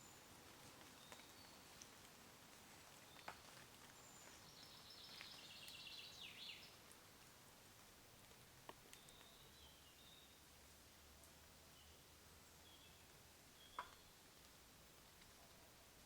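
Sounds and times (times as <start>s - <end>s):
woodland background hiss: 0.0s - 16.0s.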